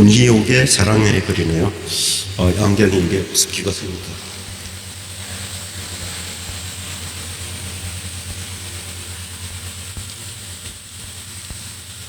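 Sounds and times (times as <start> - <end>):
fogging machine spraying: 0.0 - 12.0.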